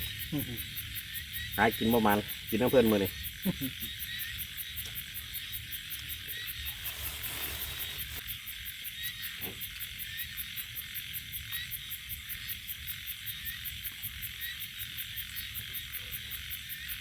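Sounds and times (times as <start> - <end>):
frogs trilling: 0.0 - 17.0
insects chirring hum: 0.0 - 17.0.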